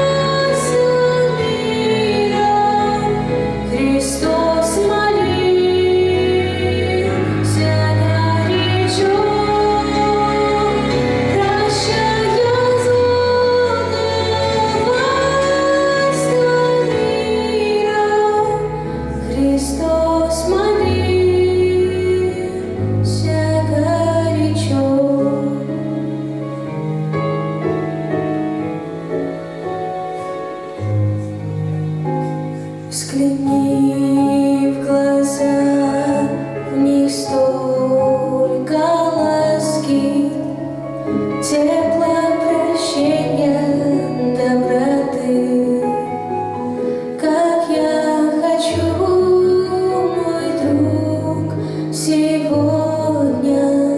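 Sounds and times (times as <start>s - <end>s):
women singing a hymn: 0.0s - 25.7s, 33.0s - 40.6s, 41.4s - 46.4s, 47.2s - 53.9s
instrumental accompaniment: 0.0s - 53.9s.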